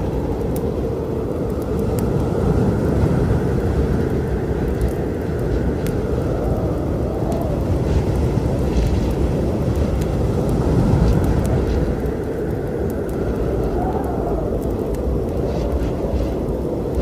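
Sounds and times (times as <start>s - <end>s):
storm rumble: 0.0s - 17.0s
wood fire crackling and popping: 0.0s - 17.0s.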